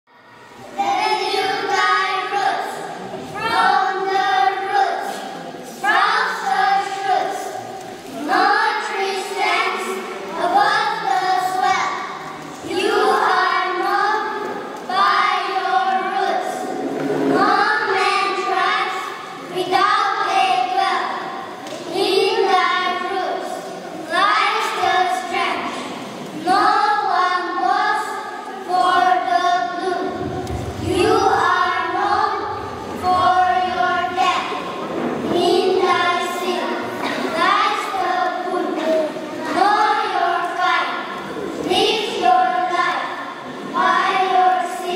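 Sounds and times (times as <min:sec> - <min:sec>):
children chanting in unison: 0:00.2 - 0:44.9.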